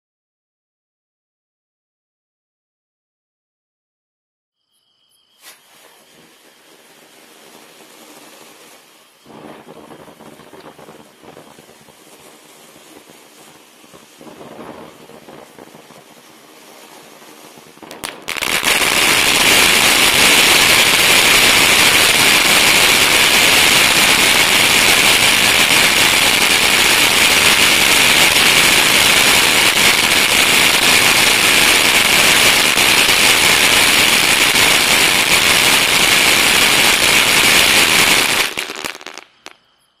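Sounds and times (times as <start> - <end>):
firework fountain hissing sparks: 5.3 - 40.0.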